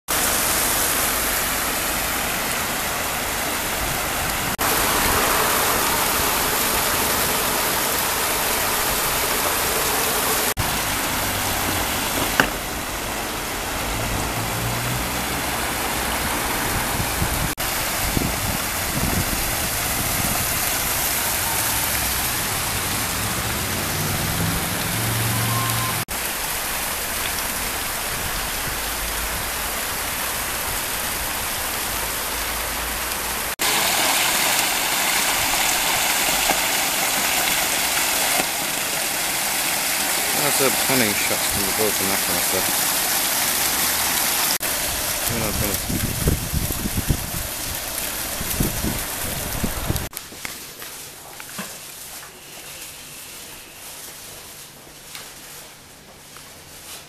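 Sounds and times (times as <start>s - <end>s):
fountain water rushing: 0.1s - 50.8s.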